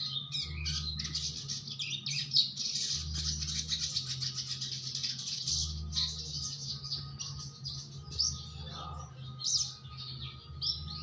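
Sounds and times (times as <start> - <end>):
bird chirping high notes: 0.0 - 11.0.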